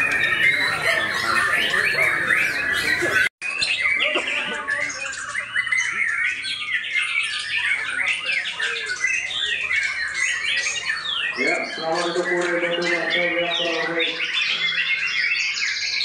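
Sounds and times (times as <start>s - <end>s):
many birds whistling and chirping: 0.0s - 16.0s.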